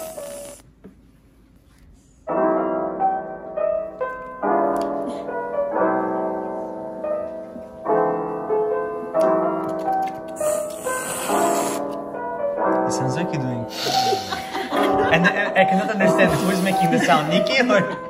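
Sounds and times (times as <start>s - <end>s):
piano music: 2.2s - 18.0s.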